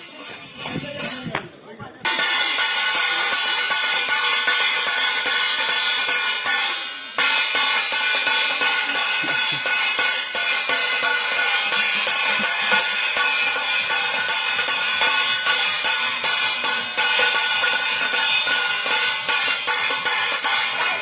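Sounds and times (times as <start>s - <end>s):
metal plates and bells clattering: 0.0s - 21.0s.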